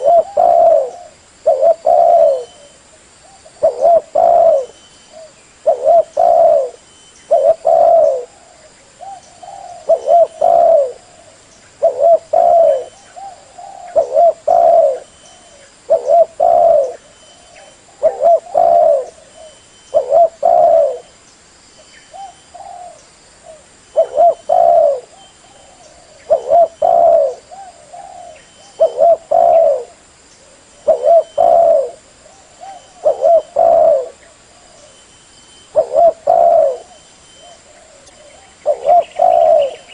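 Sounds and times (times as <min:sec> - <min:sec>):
dove cooing: 0:00.0 - 0:21.1, 0:22.1 - 0:39.9.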